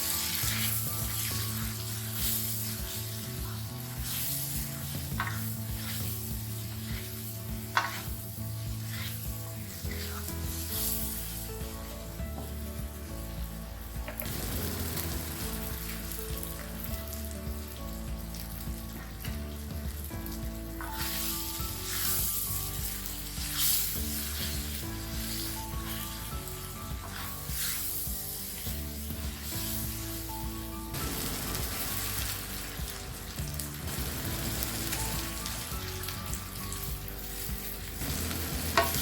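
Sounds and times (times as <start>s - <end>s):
food sizzling in hot oil: 0.0s - 39.0s
soft background music: 0.0s - 39.0s.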